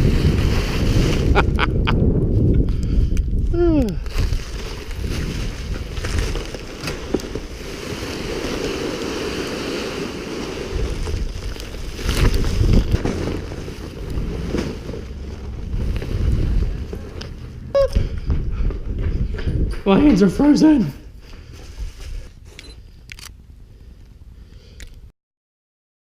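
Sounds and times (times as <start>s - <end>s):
wind buffeting microphone: 0.0s - 22.5s.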